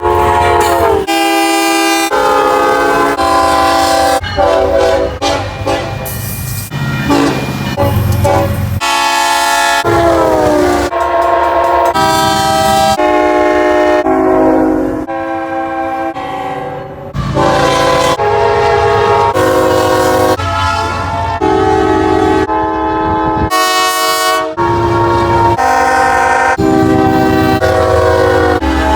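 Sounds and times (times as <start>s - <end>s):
train horns sounding chords: 0.0s - 28.9s.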